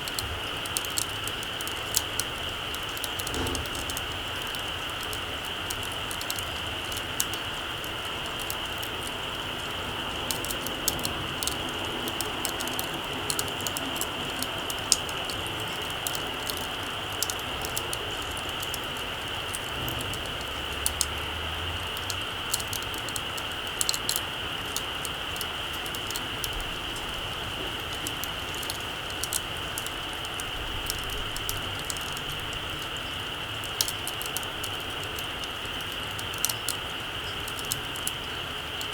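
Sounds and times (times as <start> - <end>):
burning wood popping: 0.0 - 38.9
campfire crackling: 0.0 - 38.9.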